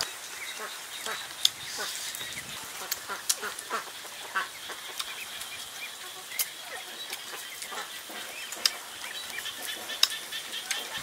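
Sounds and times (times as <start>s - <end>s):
ducks calling softly: 0.0s - 11.0s.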